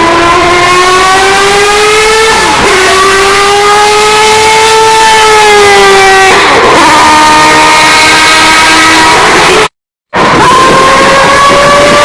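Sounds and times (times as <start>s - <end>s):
rotary engine revving high: 0.0s - 12.0s.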